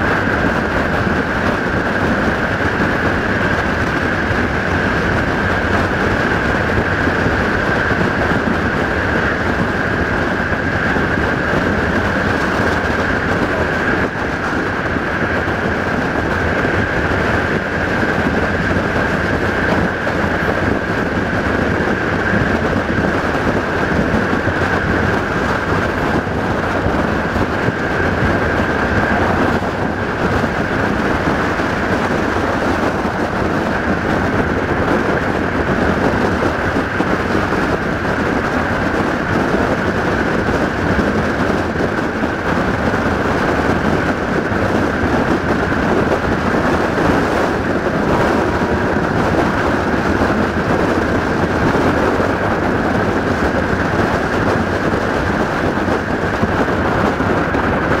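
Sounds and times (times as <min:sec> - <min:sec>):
train wheels rolling on track: 0:00.0 - 0:58.0.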